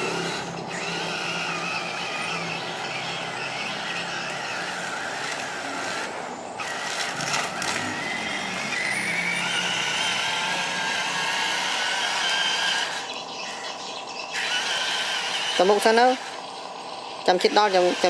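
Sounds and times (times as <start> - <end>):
electric motors and gearbox whining: 0.0 - 18.0.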